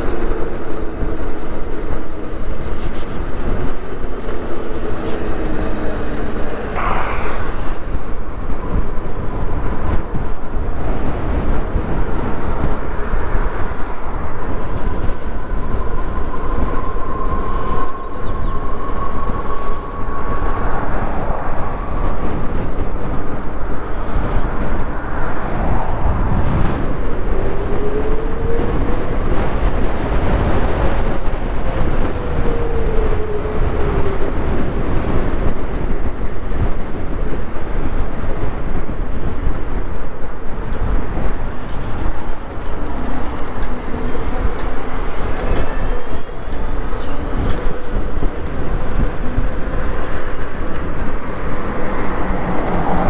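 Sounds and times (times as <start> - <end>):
road rumble: 0.0 - 53.0
wind rushing over microphone: 0.0 - 53.0.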